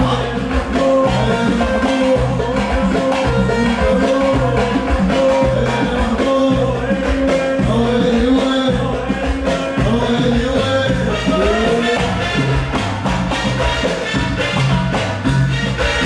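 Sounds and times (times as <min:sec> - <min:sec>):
live band playing pop music: 0:00.0 - 0:16.0.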